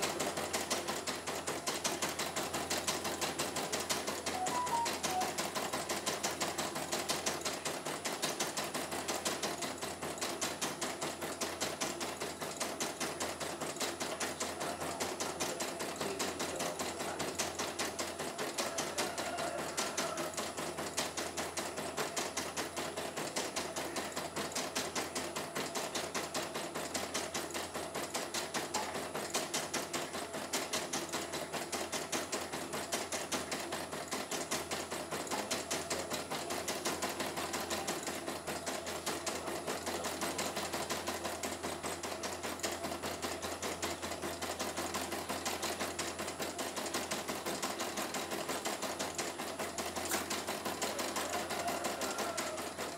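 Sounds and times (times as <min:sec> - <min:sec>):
embroidery machine rapid ticking: 0:00.0 - 0:19.0, 0:19.6 - 0:52.9.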